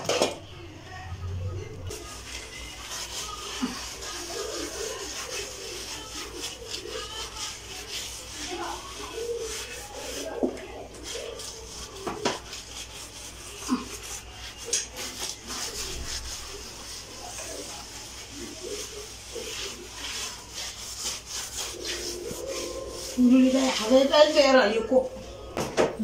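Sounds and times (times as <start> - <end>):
sponge scrubbing tiles: 1.6 - 25.6.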